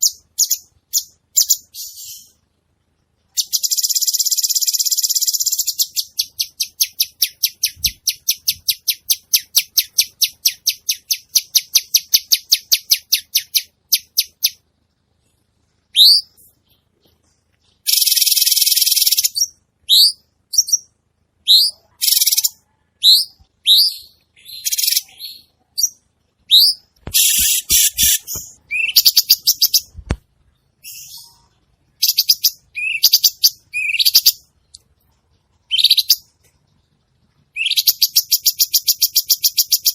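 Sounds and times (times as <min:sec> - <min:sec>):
songbird singing: 0:00.0 - 0:02.4, 0:03.3 - 0:14.7, 0:15.8 - 0:39.9.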